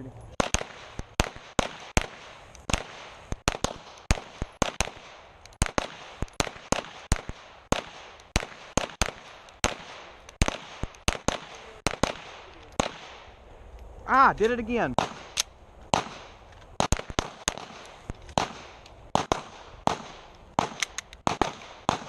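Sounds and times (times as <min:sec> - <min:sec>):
pistols firing: 0:00.3 - 0:13.4, 0:14.5 - 0:22.0.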